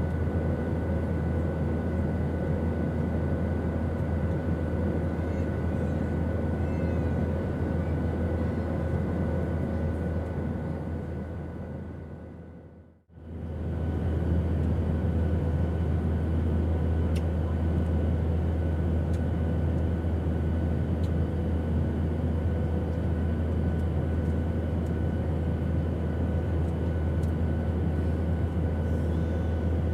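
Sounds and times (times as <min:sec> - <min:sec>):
airplane engine drone: 0:00.0 - 0:29.9.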